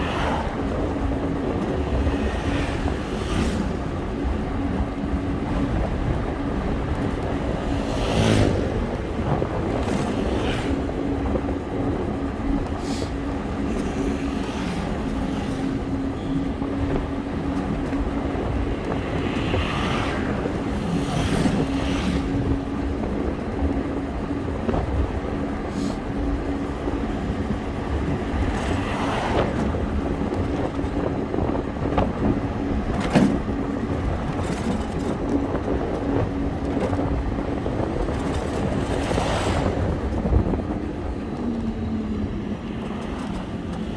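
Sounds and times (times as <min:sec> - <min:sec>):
traffic: 0:00.0 - 0:43.9
wind noise: 0:00.0 - 0:43.9.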